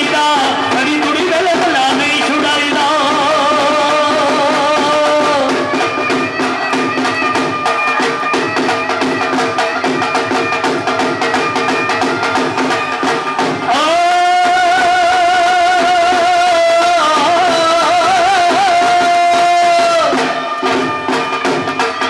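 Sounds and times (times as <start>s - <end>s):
fast dhol drumming: 0.0s - 22.0s
reedy wind instrument melody: 3.0s - 22.0s.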